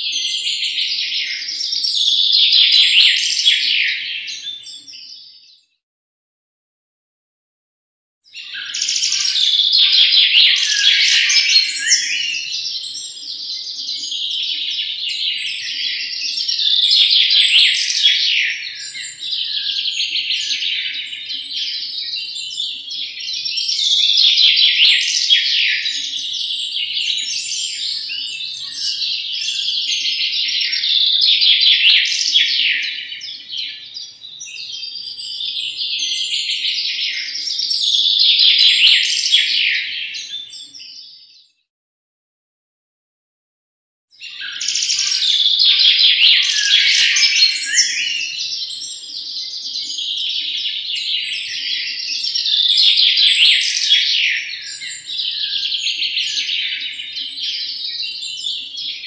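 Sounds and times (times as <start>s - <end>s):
finches singing fast twittering song: 0.0s - 5.7s, 8.3s - 41.5s, 44.1s - 59.0s.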